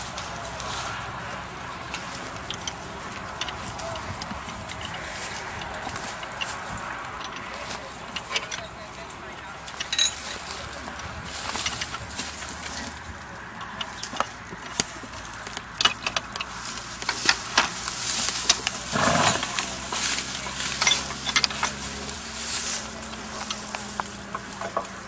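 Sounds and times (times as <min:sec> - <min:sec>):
dry straw crackling: 0:00.0 - 0:25.0
small metal clicks and clinks: 0:01.8 - 0:25.0.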